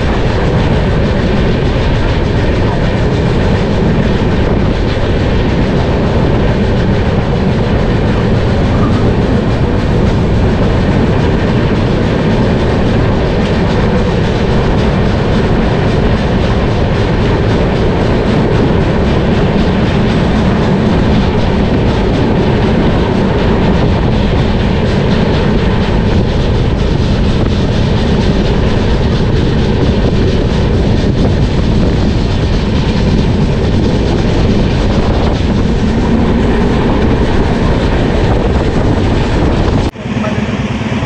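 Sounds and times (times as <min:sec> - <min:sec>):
faint clickety-clack: 0:00.0 - 0:40.5
train wheels on track: 0:00.0 - 0:41.0.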